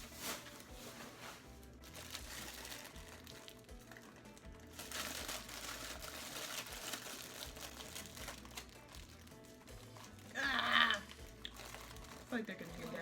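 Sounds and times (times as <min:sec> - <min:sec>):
popcorn bag crinkling: 0:00.0 - 0:13.0
soft background music: 0:00.0 - 0:13.0.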